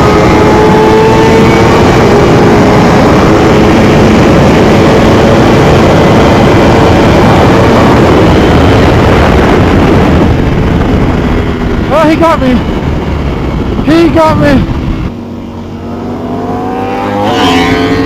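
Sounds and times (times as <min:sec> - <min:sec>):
motorcycle engine at speed: 0:00.0 - 0:18.0.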